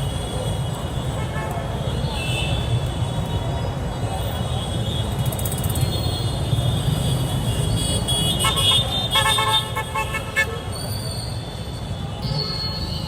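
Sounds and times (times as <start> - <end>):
heavy street traffic rumble: 0.0 - 13.0.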